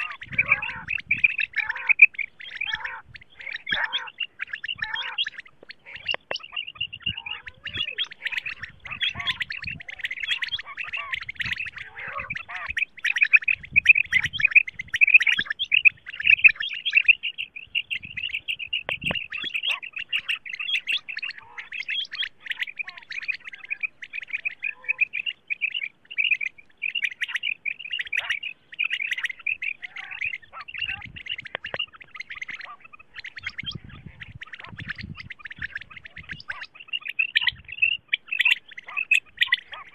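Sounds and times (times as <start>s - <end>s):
quail chirping: 0.0s - 39.9s.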